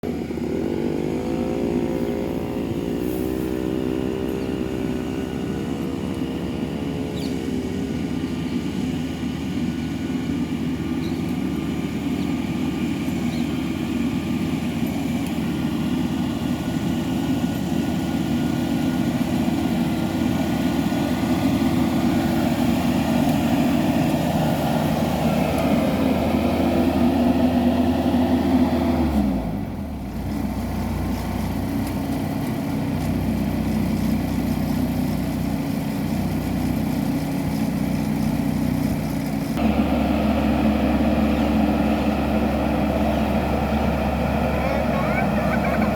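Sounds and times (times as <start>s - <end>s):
combine harvester engine running: 0.0s - 45.9s.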